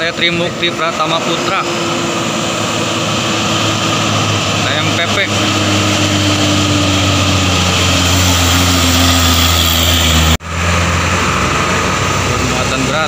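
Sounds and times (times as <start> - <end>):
diesel truck engine droning: 0.0 - 13.0
heavy truck engines: 0.0 - 13.0.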